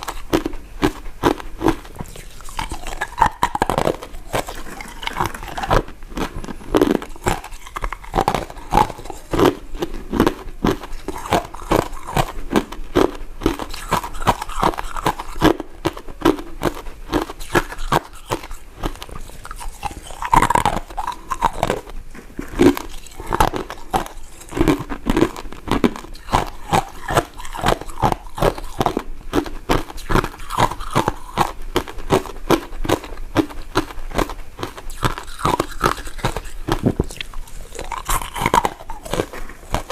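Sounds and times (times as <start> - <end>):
chewing mint sweets: 0.0 - 39.9.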